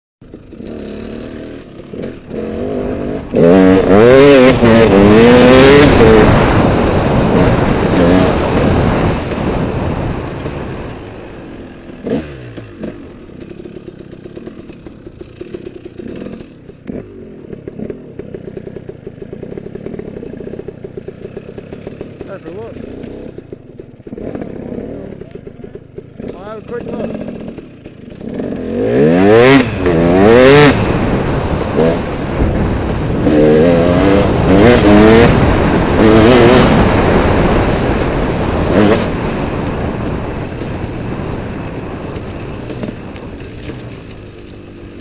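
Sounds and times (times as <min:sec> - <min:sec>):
dirt bike engine revving: 0:00.2 - 0:45.0.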